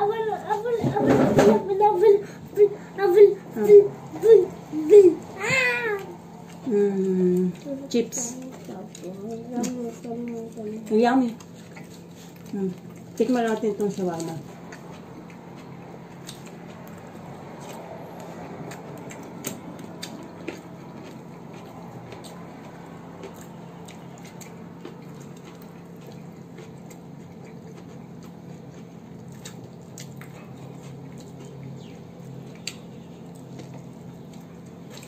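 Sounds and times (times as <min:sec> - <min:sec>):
people chewing food: 0:00.0 - 0:35.0
steady low hum: 0:00.0 - 0:35.0.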